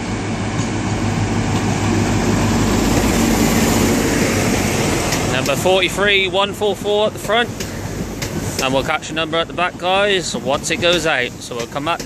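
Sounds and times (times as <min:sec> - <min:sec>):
train diesel engine humming: 0:00.0 - 0:12.0.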